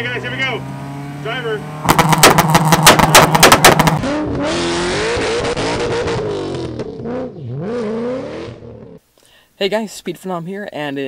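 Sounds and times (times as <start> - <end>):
car engine revving hard: 0.0 - 9.0.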